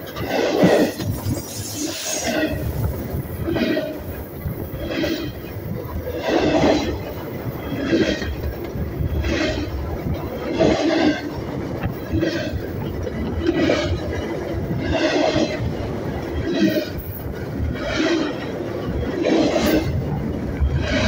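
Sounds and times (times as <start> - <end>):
train wheels clattering overhead: 0.0 - 21.0.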